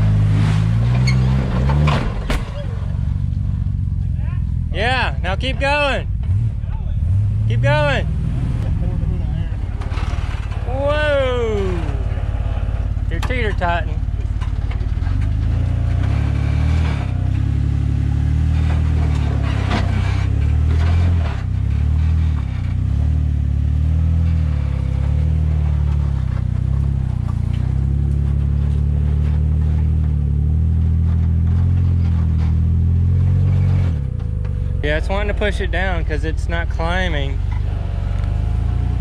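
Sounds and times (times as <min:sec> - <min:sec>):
engine revving under load: 0:00.0 - 0:03.0, 0:04.7 - 0:39.0.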